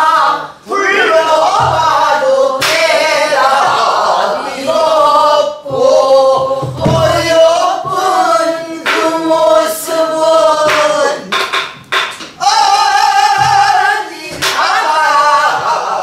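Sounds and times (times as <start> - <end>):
person singing folk song: 0.0 - 11.4, 12.4 - 16.0.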